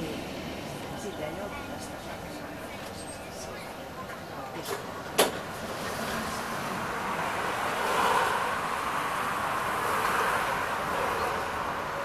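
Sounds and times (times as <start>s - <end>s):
tram rolling along track: 0.0s - 12.0s.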